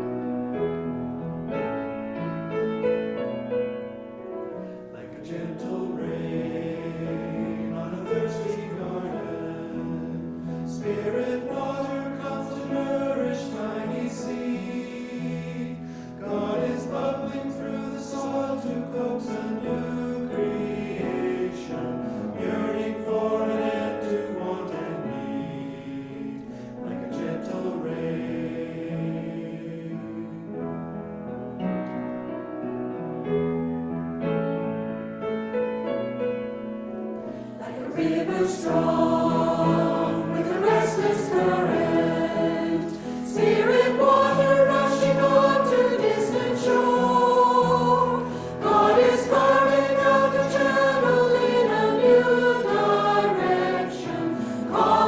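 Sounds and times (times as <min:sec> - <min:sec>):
piano accompaniment: 0:00.0 - 0:55.0
voices singing a hymn: 0:04.5 - 0:31.0, 0:37.3 - 0:55.0.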